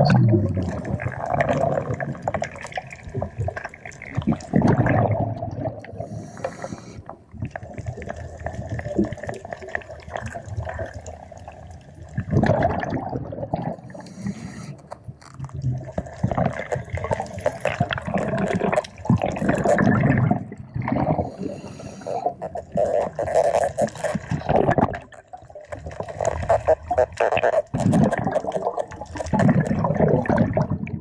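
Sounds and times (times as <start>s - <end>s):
muffled underwater wash: 0.0s - 31.0s
underwater bubbling surges: 0.0s - 31.0s.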